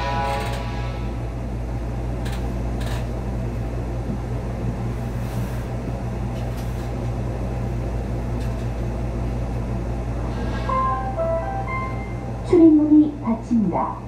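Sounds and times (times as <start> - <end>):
train hum and fan noise: 0.0 - 14.0.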